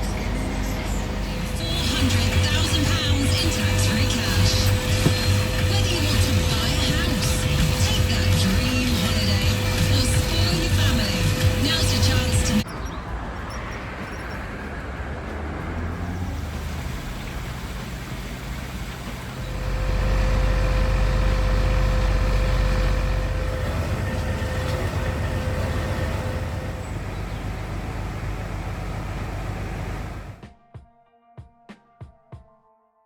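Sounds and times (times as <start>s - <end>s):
heavy vehicle engine rumbling: 0.0s - 30.4s.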